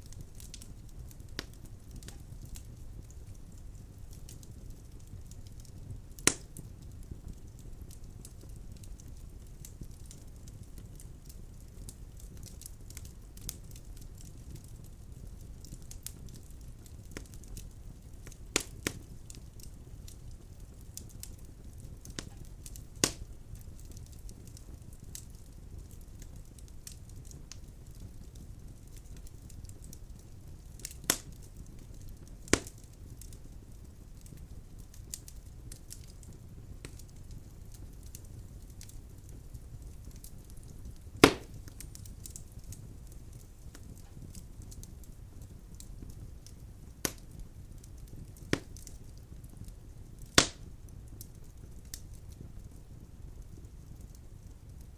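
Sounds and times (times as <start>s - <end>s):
sharp pops of burning wood: 0.0s - 52.7s
fire crackling: 0.0s - 54.9s
fire low rumble: 0.0s - 54.9s.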